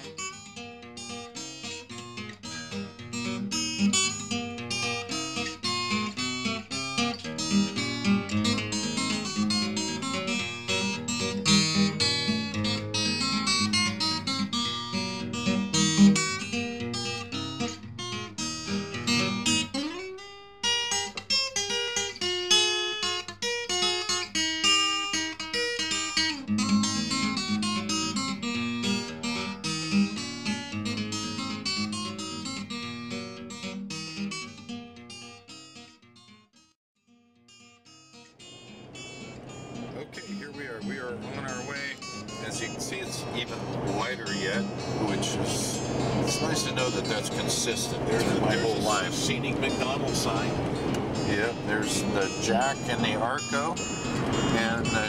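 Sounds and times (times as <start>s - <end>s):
acoustic guitar plucked notes: 0.0s - 36.3s, 37.4s - 55.0s.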